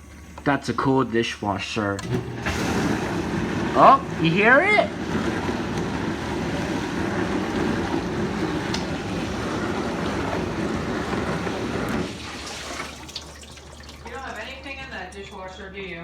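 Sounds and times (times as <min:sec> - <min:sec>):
dishwasher running: 0:00.0 - 0:16.0.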